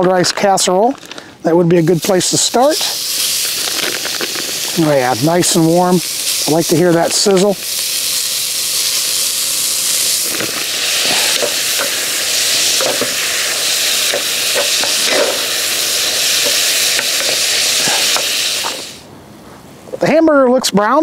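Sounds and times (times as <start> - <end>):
meat sizzling in a pot: 1.7 - 19.0.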